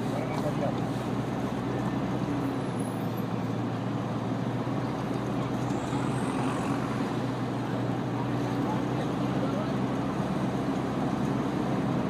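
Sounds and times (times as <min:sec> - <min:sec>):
city traffic engines humming: 0:00.0 - 0:12.0.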